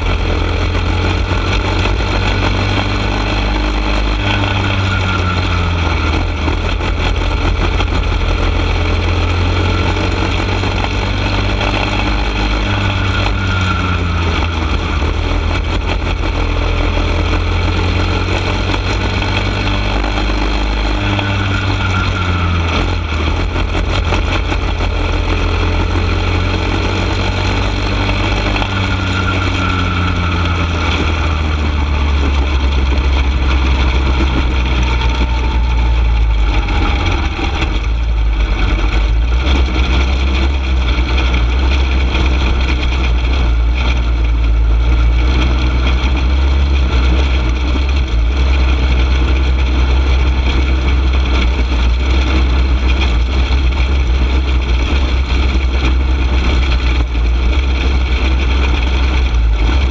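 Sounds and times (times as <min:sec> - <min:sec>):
go-kart engine racing: 0:00.0 - 0:59.9
heavy low rumble: 0:00.0 - 0:59.9.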